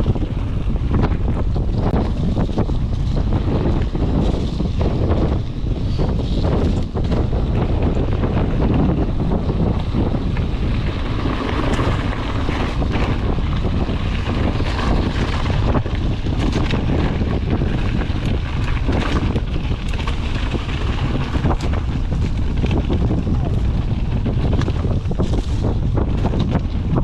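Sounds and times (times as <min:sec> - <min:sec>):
bike clicks and knocks: 0:00.0 - 0:27.0
wind buffeting microphone: 0:00.0 - 0:27.0.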